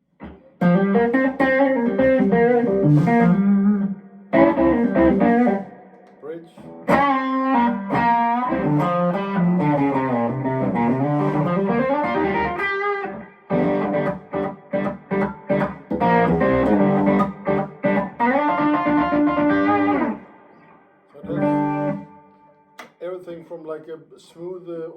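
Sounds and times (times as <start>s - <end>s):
electric guitar chords: 0.0s - 22.8s.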